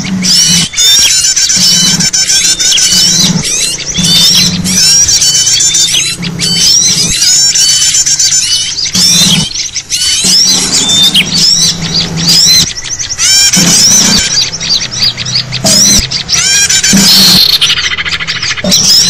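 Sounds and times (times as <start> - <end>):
songbirds chirping and whistling: 0.0 - 19.0
steady low hum: 0.0 - 19.0.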